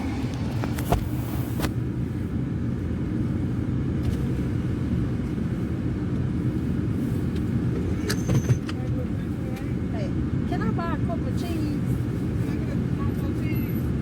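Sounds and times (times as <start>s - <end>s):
car engine rumble inside cabin: 0.0s - 14.0s.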